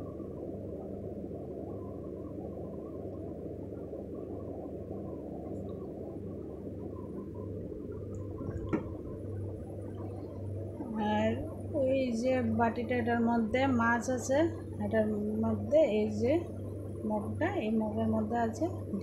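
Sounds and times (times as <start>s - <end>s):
appliance humming: 0.0s - 19.0s.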